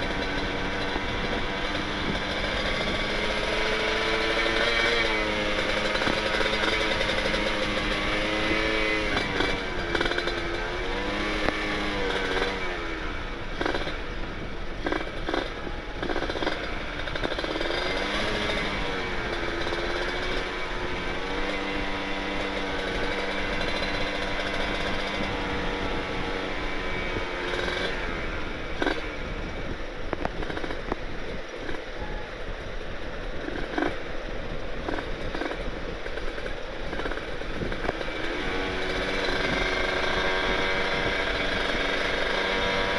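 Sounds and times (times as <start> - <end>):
motorcycle two-stroke engine revving: 0.0 - 42.9.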